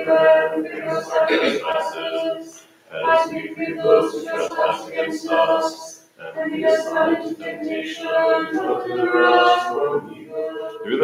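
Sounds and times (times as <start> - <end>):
voices chanting a hymn: 0.0 - 11.0.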